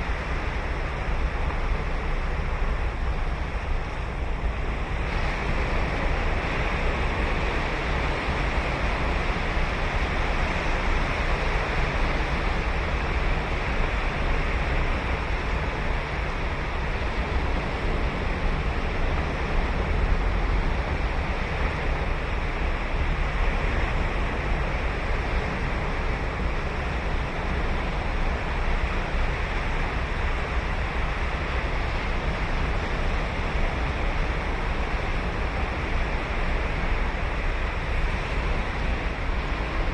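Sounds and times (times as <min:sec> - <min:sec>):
ocean surf breaking on beach: 0:00.0 - 0:39.9
wind on microphone: 0:00.0 - 0:39.9.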